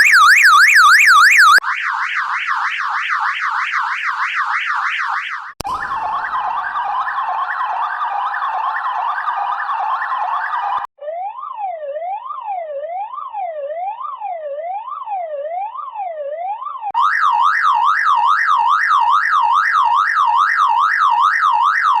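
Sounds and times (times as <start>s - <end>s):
car alarm siren sweeping: 0.0s - 22.0s.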